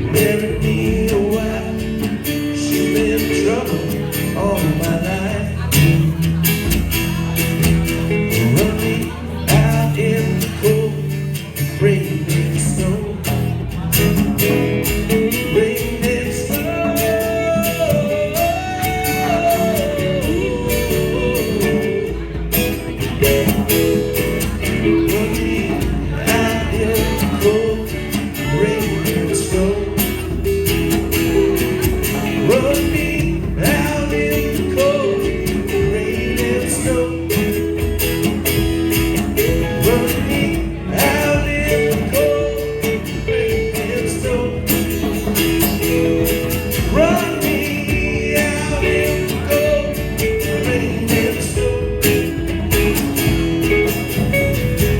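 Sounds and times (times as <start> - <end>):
country blues band on guitars: 0.0 - 54.9
person singing: 8.3 - 38.2, 39.1 - 53.4.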